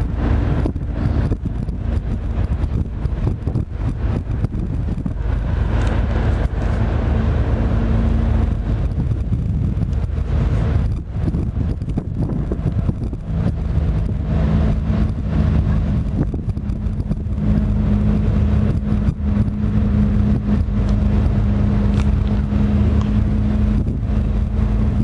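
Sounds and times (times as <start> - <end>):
engine drone: 0.0 - 25.0
wind rumbling on microphone: 0.0 - 25.0.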